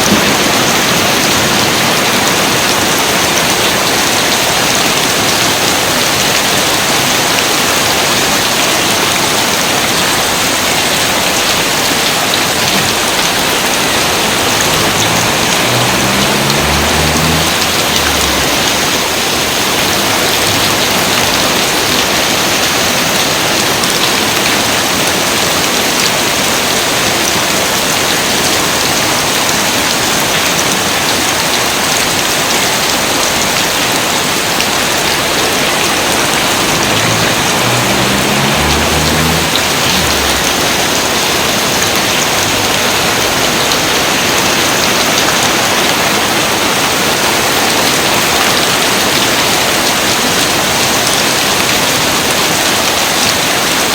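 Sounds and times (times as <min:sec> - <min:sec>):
dense rainfall: 0:00.0 - 0:53.9.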